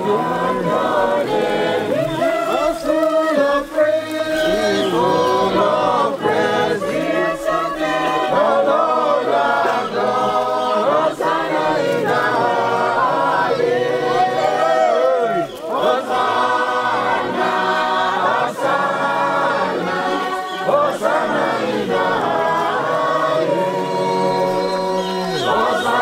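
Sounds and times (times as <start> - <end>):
congregation singing a hymn: 0.0 - 26.0.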